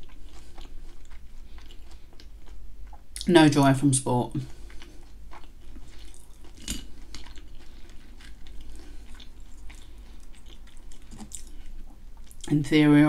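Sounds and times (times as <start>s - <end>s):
chewing onion ring: 0.0s - 3.5s, 4.3s - 12.6s.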